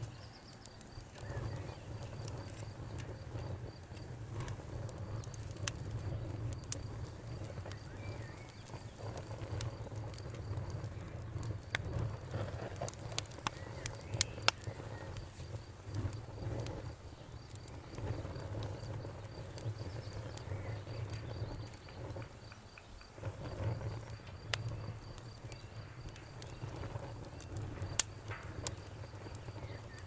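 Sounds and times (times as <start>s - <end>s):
campfire crackling and popping: 0.0s - 30.0s
crickets chirping: 0.0s - 30.0s.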